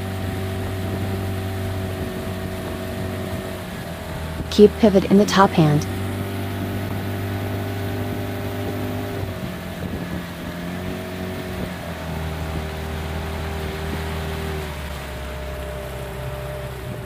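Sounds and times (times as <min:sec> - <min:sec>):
motorboat engine running: 0:00.0 - 0:04.5, 0:05.9 - 0:17.0.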